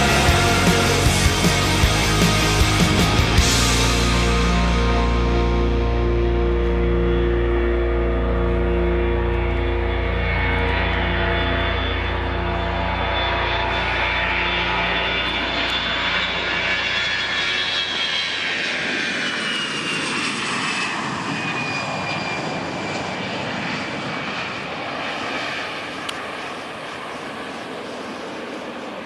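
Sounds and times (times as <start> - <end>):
jet airliner roaring past: 0.0 - 29.0.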